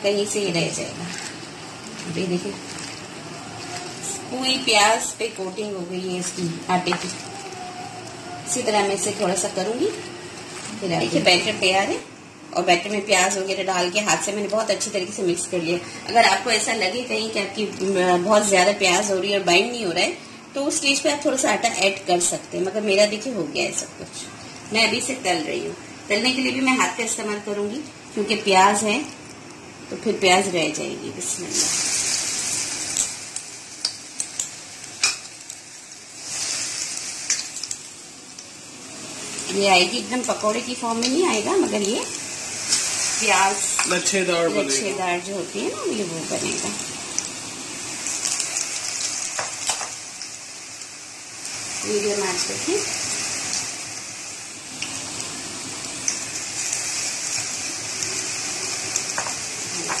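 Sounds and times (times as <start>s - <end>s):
batter sizzling in hot oil: 0.0s - 60.0s.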